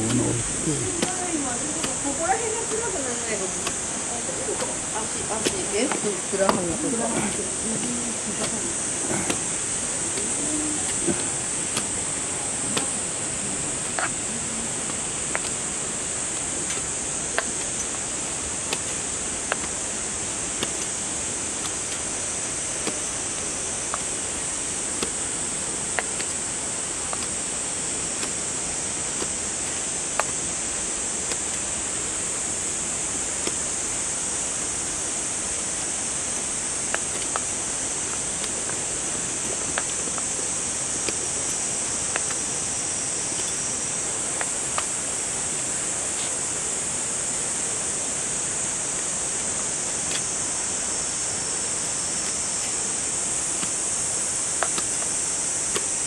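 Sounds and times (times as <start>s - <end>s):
cicadas singing: 0.0s - 56.0s
rushing hiss: 0.0s - 56.0s.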